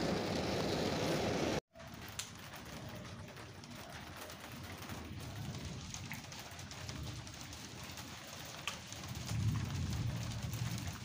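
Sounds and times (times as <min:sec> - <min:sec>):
heavy rain pouring: 0:00.0 - 0:11.0
steady rain: 0:00.0 - 0:11.0.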